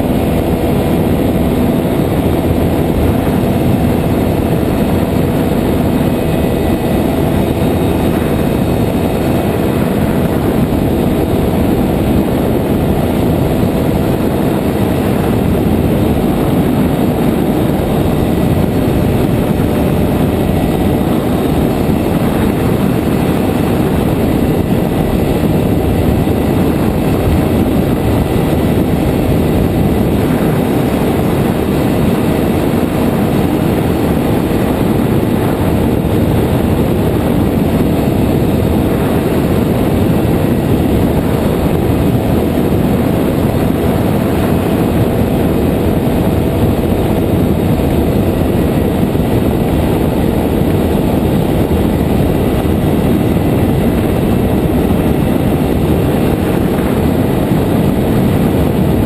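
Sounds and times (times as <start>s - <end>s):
engine and propeller drone: 0.0s - 59.0s
wind rushing over microphone: 0.0s - 59.0s.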